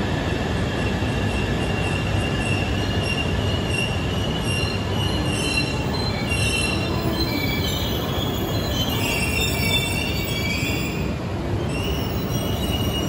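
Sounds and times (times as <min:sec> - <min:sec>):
high-pitched train squeals: 0:00.0 - 0:13.0
train rolling with rumble: 0:00.0 - 0:13.0.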